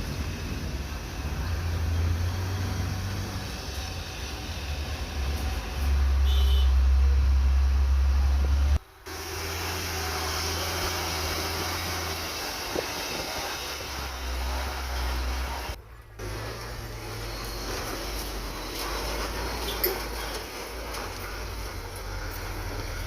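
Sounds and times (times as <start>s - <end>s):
diesel truck engine rumbling: 0.0s - 23.0s.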